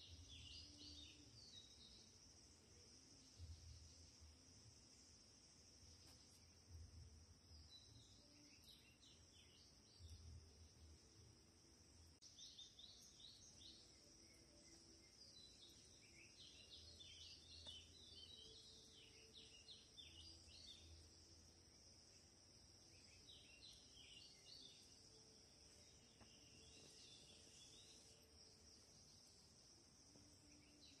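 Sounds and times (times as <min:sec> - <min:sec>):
faint bird chirps: 0:00.0 - 0:11.2, 0:12.0 - 0:31.0
steady high hiss: 0:00.0 - 0:31.0.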